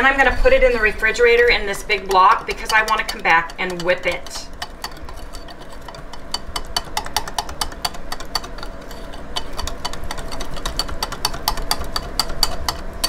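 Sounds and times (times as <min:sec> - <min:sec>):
whisk clicking against glass: 0:01.5 - 0:13.0.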